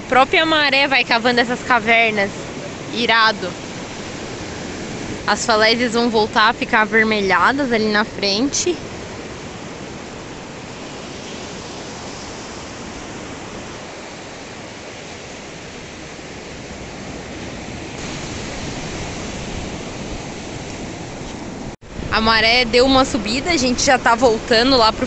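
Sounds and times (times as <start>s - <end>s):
ocean surf on beach: 0.0s - 25.0s.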